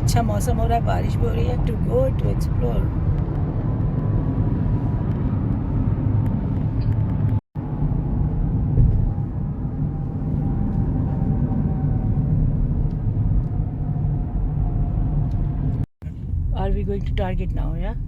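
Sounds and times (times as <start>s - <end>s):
road and engine rumble in car: 0.0s - 18.0s.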